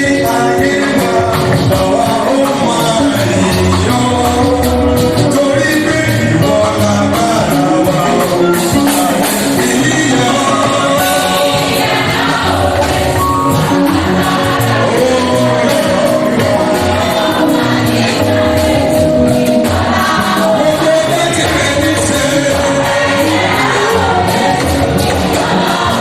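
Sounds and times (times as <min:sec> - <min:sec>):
band accompaniment: 0:00.0 - 0:26.0
choir singing gospel: 0:00.0 - 0:26.0.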